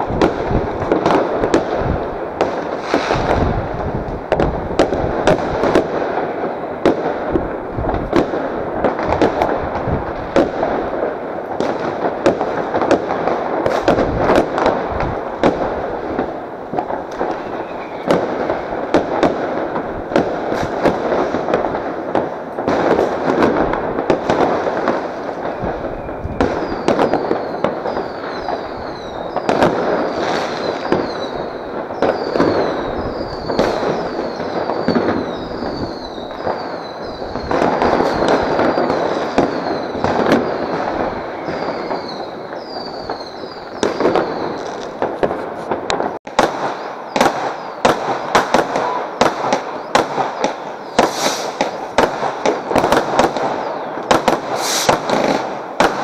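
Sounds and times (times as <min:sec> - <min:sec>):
falling firework whistles: 0:00.0 - 0:07.2, 0:11.6 - 0:21.8, 0:22.7 - 0:56.0
firecrackers crackling: 0:00.0 - 0:56.0
fireworks bangs: 0:00.0 - 0:56.0.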